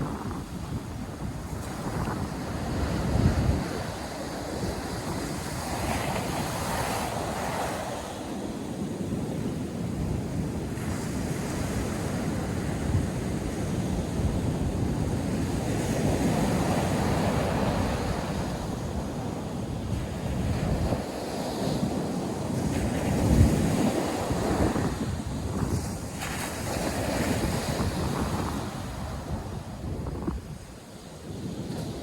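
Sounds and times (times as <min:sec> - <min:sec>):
ocean surf breaking on beach: 0:00.0 - 0:32.0
wind rumbling on microphone: 0:00.0 - 0:32.0.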